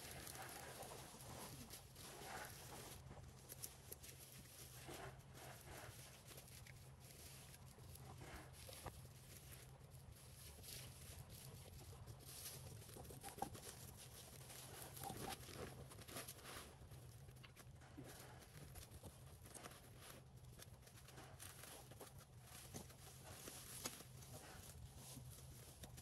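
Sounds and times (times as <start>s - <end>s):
faint clicks and rustles: 0.0s - 26.0s
low steady hum: 0.0s - 26.0s.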